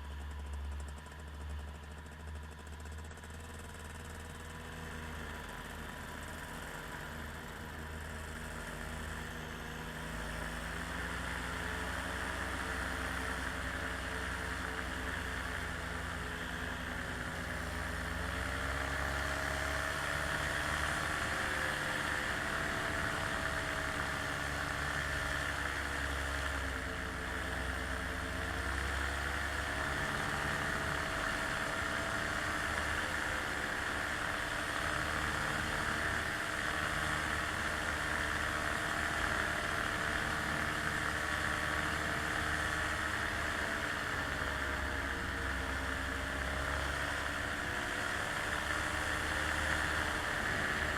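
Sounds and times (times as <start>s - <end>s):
small aircraft motors in flight: 0.0s - 50.9s.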